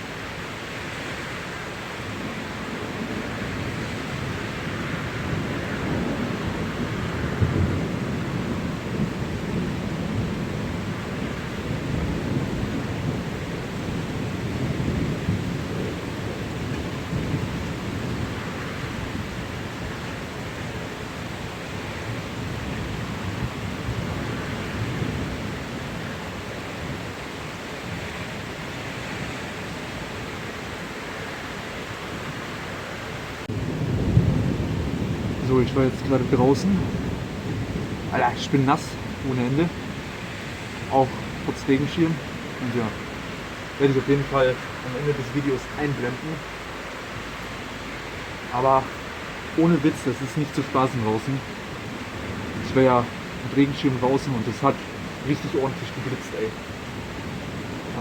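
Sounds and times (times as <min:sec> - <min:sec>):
steady rain: 0:00.0 - 0:58.0
thunder rumbling: 0:02.0 - 0:58.0.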